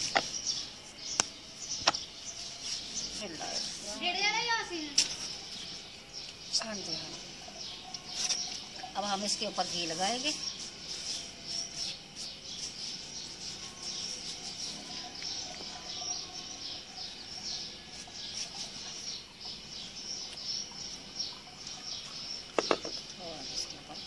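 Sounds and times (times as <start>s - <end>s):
rapid high-pitched chirping: 0.0s - 24.0s.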